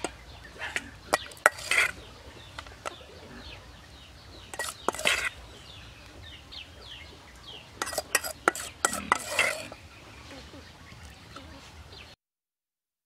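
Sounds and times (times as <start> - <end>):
birds chirping: 0.0 - 12.2.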